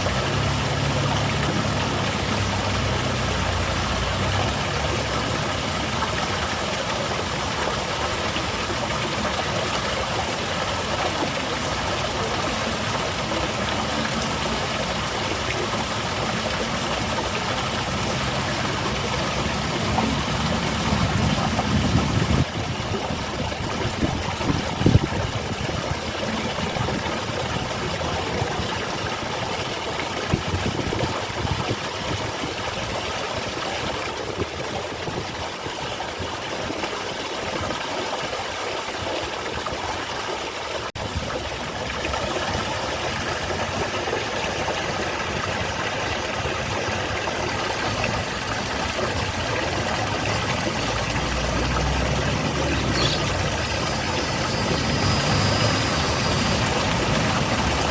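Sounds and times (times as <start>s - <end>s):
waterfall splashing: 0.0s - 57.9s.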